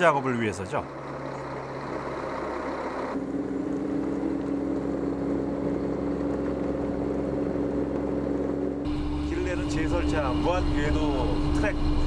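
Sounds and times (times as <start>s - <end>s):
diesel engine running: 0.0s - 12.0s
steady hum: 0.9s - 12.0s.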